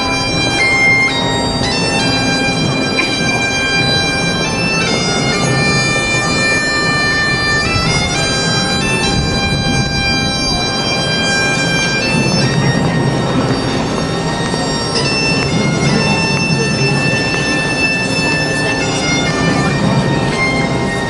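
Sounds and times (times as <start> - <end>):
bagpipes playing a tune: 0.0 - 21.0.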